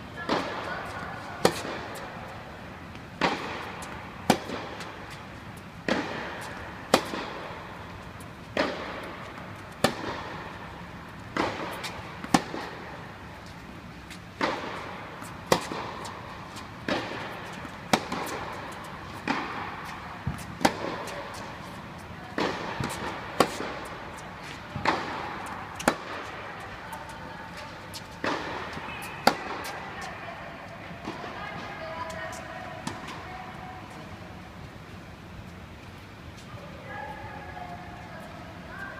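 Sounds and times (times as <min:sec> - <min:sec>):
racket hitting tennis ball: 0:00.2 - 0:33.7
tennis ball bouncing: 0:00.2 - 0:34.0.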